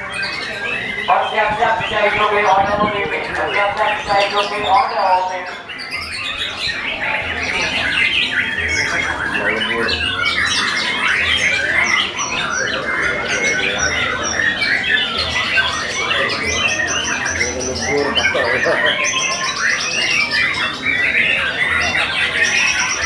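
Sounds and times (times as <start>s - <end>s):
songbirds singing in chorus: 0.0s - 23.0s.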